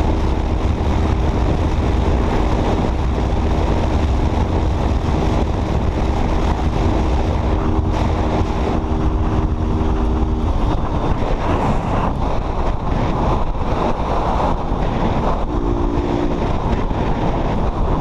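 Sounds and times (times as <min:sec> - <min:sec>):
motorcycle engine at steady revs: 0:00.0 - 0:18.0
wind rush on microphone: 0:00.0 - 0:18.0.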